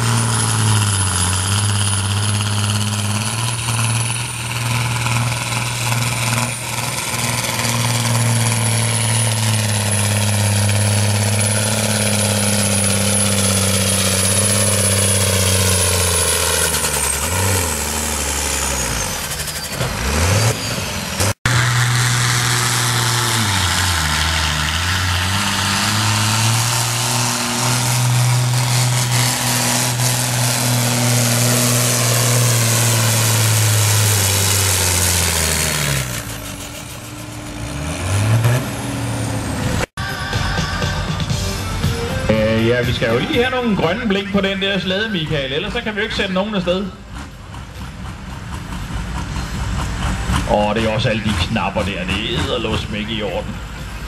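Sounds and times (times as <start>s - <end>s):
another tractor diesel engine: 0.0s - 54.0s
tractor diesel engine under load: 0.0s - 54.0s.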